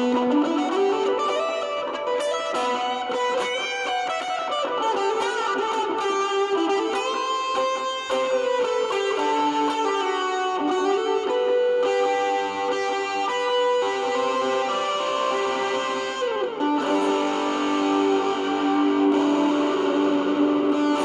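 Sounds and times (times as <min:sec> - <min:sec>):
distorted electric guitar lead notes: 0:00.0 - 0:21.0.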